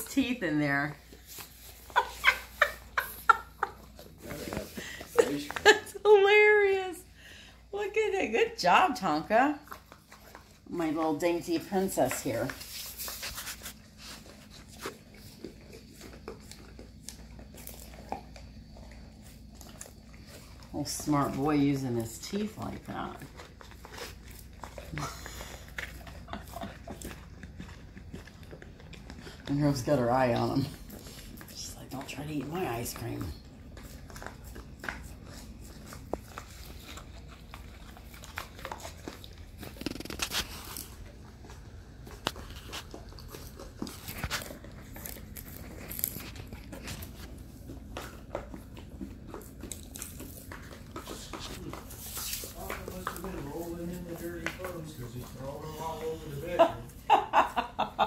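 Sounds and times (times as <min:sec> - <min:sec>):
dogs licking and chewing: 0:00.0 - 0:58.0.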